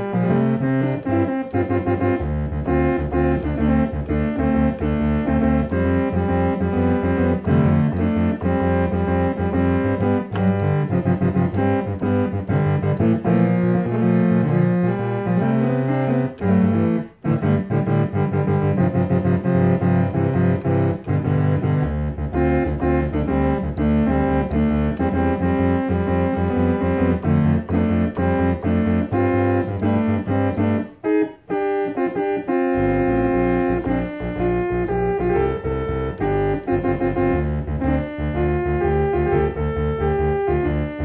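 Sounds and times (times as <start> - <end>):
boogie piano on electronic keyboard: 0.0 - 41.0.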